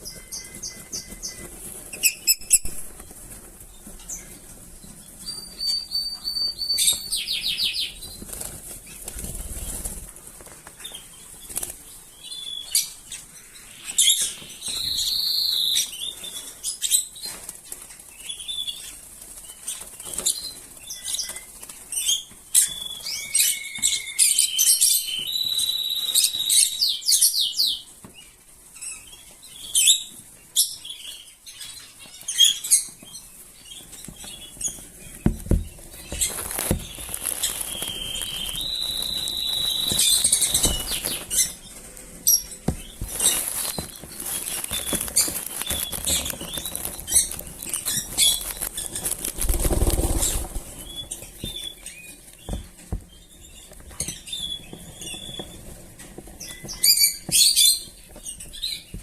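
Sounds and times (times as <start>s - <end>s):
lovebirds chirping: 0.0s - 9.9s, 18.1s - 59.0s.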